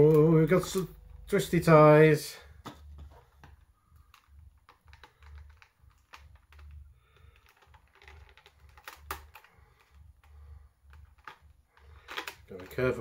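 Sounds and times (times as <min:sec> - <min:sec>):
plastic tray crackling: 0:02.6 - 0:13.0.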